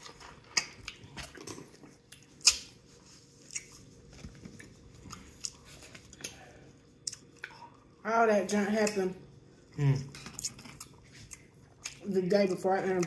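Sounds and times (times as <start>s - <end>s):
chewing crunchy food: 0.0s - 8.0s, 10.0s - 13.0s.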